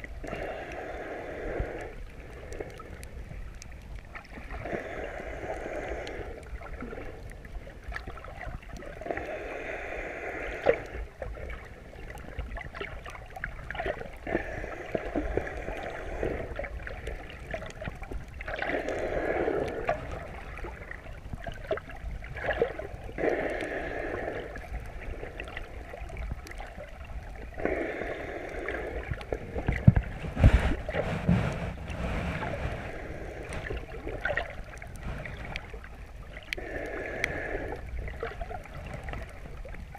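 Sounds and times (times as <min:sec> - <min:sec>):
muffled water swell: 0:00.0 - 0:39.9
water sloshing underwater: 0:00.0 - 0:39.9.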